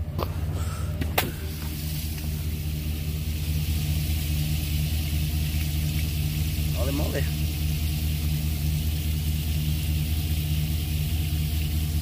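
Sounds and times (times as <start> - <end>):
machine engine running: 0.0 - 12.0
water gushing onto pavement: 1.5 - 12.0.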